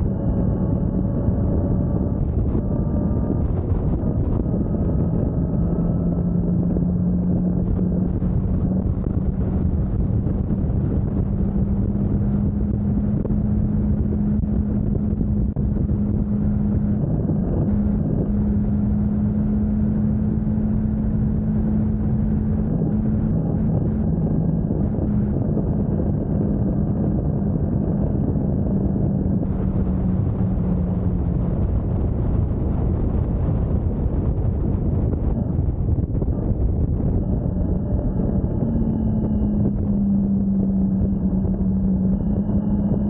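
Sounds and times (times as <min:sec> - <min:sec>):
motorcycle engine drone: 0:00.0 - 0:43.0
wind noise on microphone: 0:00.0 - 0:43.0.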